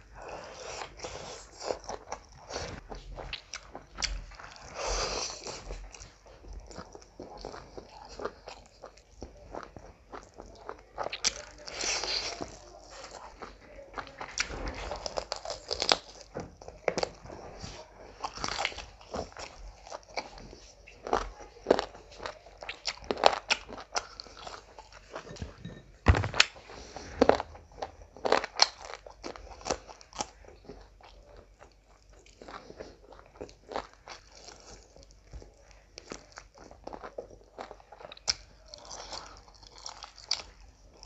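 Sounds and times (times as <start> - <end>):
chewing with wet mouth noises: 0.0 - 25.6, 26.4 - 41.0.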